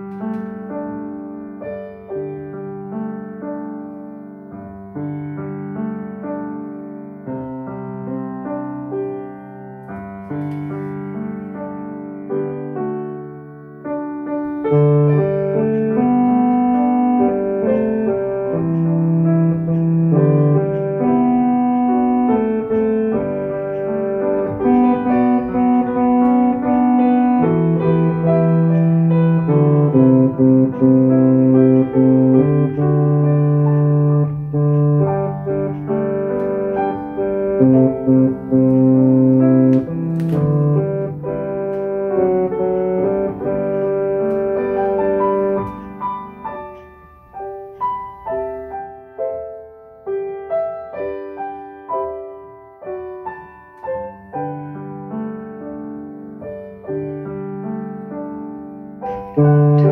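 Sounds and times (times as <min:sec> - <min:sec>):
slow piano accompaniment: 0:00.0 - 0:59.9.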